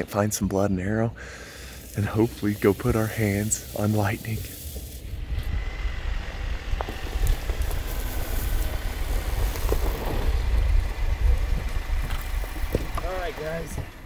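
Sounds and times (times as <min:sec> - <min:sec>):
steady low rumble: 0:00.3 - 0:14.0
vehicle driving slowly on grass: 0:01.4 - 0:14.0.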